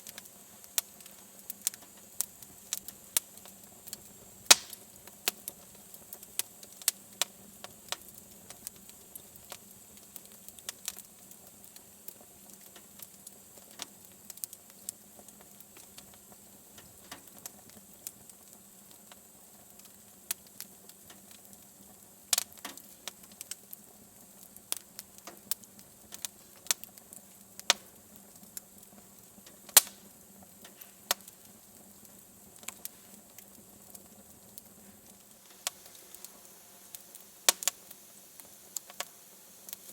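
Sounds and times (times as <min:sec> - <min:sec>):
faint steady hiss: 0:00.0 - 0:39.9
wood fire crackling and popping: 0:00.0 - 0:39.9.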